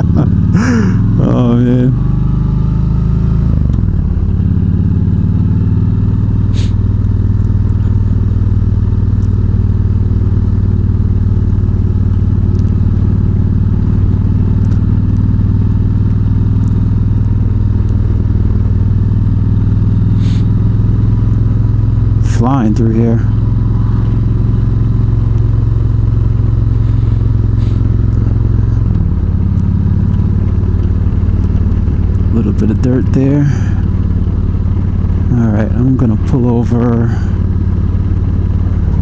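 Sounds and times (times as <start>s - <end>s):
motorcycle engine cruising: 0.0s - 39.0s.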